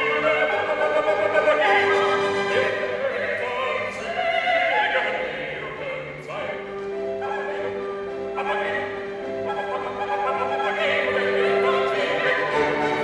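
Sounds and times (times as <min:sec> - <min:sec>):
classical ballet music: 0:00.0 - 0:13.0.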